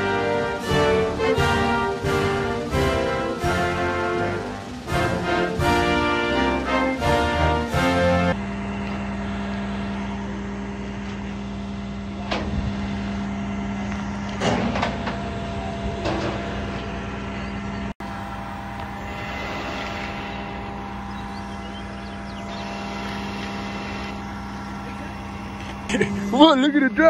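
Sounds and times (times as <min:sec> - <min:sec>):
truck engine hum: 0:00.0 - 0:27.0.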